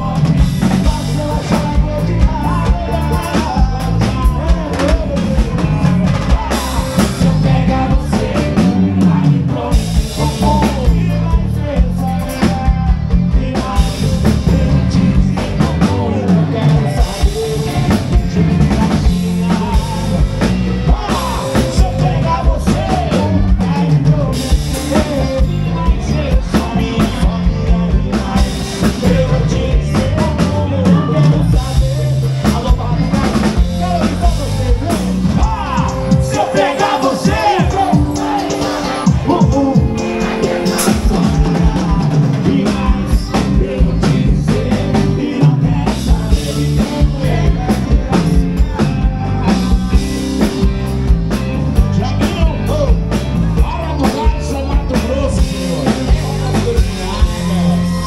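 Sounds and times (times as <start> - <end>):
band music with drum beat: 0.0 - 58.0
person singing: 0.0 - 58.0.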